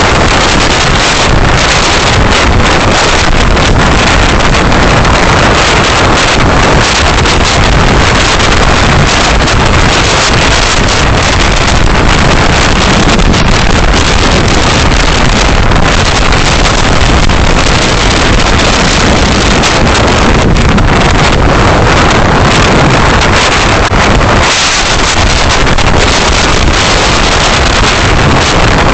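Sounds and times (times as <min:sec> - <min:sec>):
road and wind noise from car: 0:00.0 - 0:28.9.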